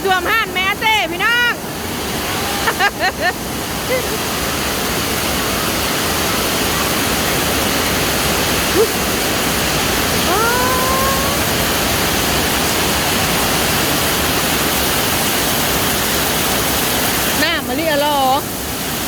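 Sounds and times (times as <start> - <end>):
storm water rushing: 0.0 - 19.0.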